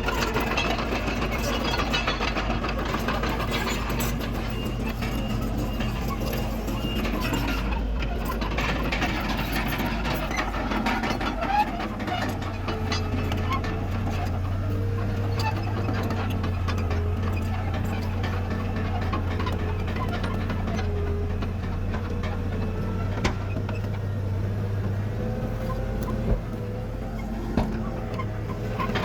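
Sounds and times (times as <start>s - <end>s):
heavy machinery diesel engine: 0.0s - 29.0s.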